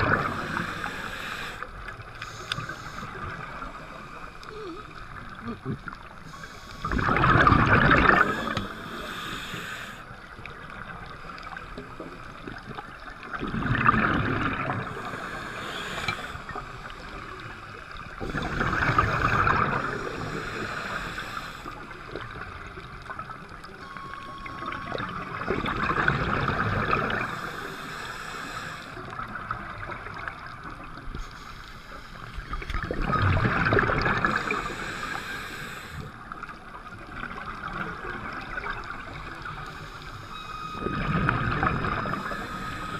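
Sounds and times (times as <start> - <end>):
exhaled bubbles underwater: 0.0 - 31.2, 32.3 - 42.9
steady underwater hiss: 0.0 - 42.9.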